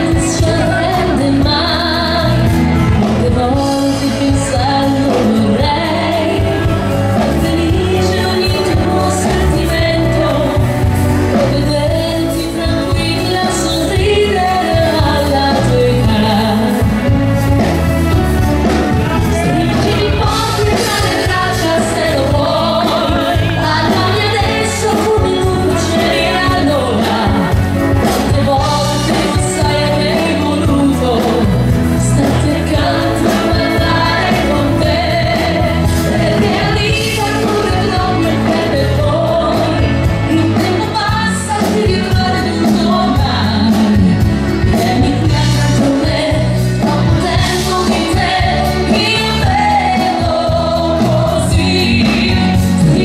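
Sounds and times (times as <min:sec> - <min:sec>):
woman singing pop ballad: 0:00.0 - 0:17.9, 0:18.6 - 0:53.0
bass guitar: 0:00.0 - 0:53.0
drums: 0:00.0 - 0:53.0.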